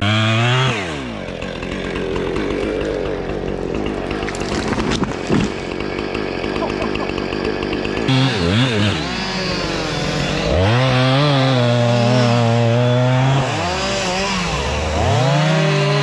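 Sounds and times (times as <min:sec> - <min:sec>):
chainsaw running and revving: 0:00.0 - 0:16.0.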